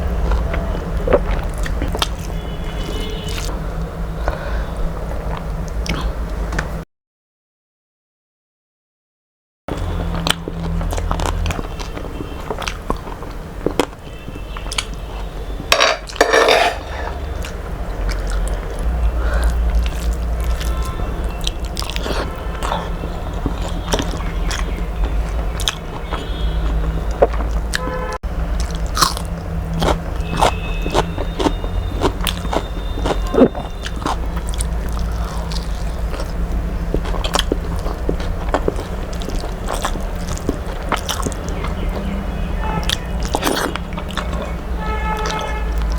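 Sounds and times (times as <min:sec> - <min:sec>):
person chewing close up: 0:00.0 - 0:03.5, 0:05.3 - 0:06.4, 0:09.7 - 0:15.3, 0:17.0 - 0:45.9.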